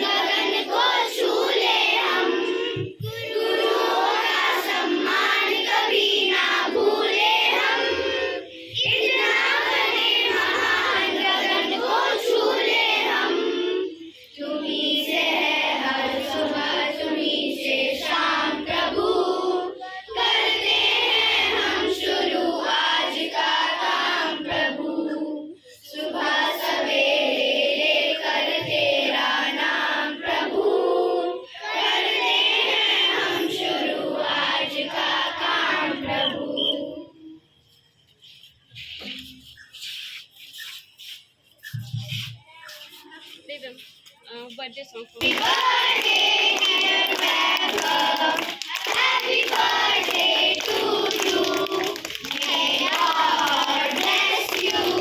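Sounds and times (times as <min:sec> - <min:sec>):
children singing in unison: 0:00.0 - 0:37.4, 0:45.2 - 0:55.0.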